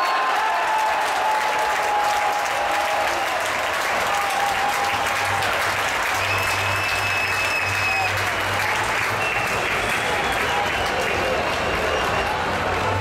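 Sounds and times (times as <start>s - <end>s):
crowd clapping and cheering: 0.0s - 13.0s.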